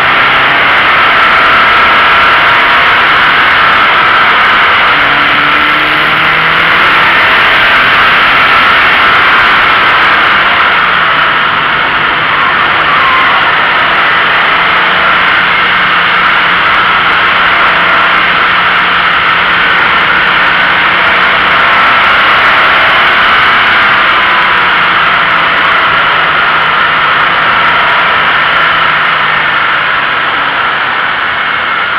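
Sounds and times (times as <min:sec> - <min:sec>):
faint car engine: 0:00.0 - 0:31.9
tyre noise on asphalt: 0:00.0 - 0:31.9.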